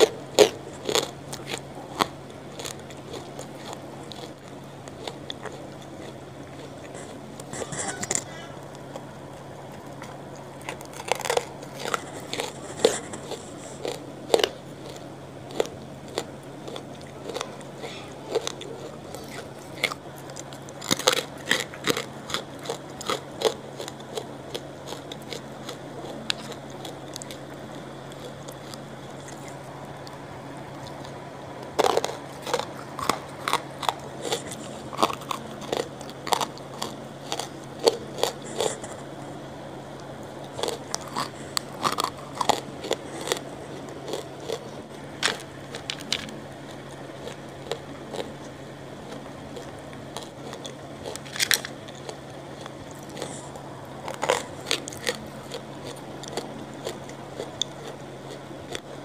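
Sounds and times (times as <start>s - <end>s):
biting and chewing hard lumps: 0.0s - 59.0s.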